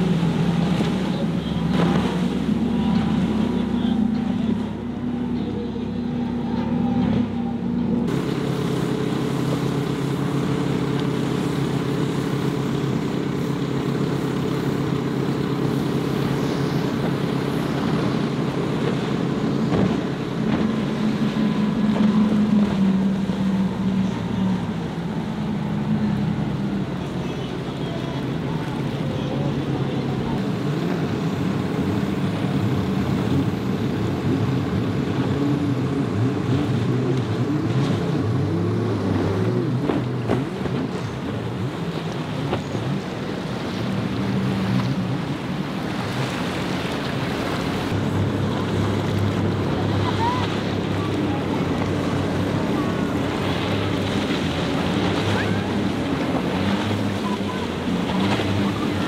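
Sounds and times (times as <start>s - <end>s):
hull and spray rushing through water: 0.0s - 59.0s
passing boat engine: 0.0s - 59.0s
speedboat engines droning: 0.0s - 59.0s.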